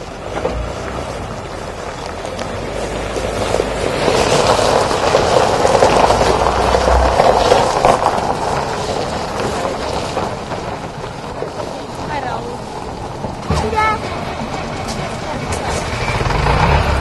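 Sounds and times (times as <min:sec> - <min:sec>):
van engine and road noise: 0:00.0 - 0:17.0
wind rumbling on microphone: 0:00.0 - 0:17.0.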